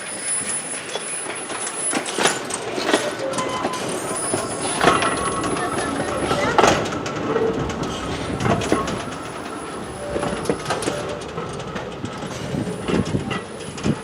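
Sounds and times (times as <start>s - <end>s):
train moving on track: 0.0s - 14.0s
wheels clanking and clicking: 0.2s - 14.0s.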